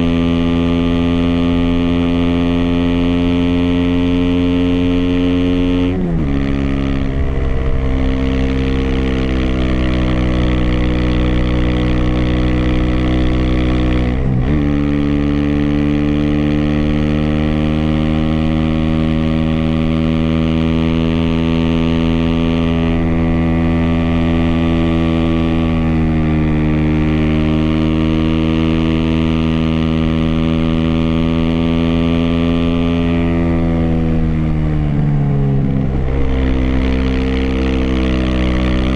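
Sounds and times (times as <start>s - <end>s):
muffled motorcycle engine accelerating: 0.0s - 38.9s.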